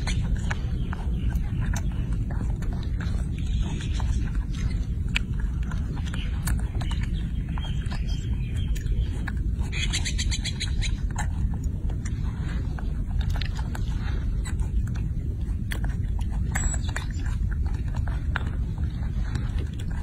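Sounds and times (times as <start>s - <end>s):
low wind rumble: 0.0s - 20.0s
monkey chewing wet smacks: 0.0s - 20.0s.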